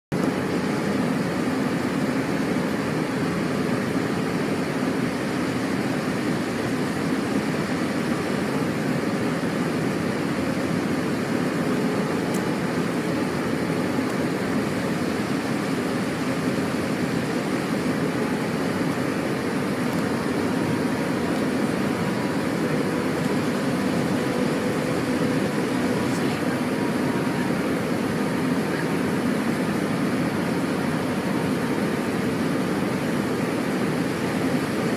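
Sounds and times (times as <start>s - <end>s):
jet engines and airflow rushing: 0.1s - 34.9s.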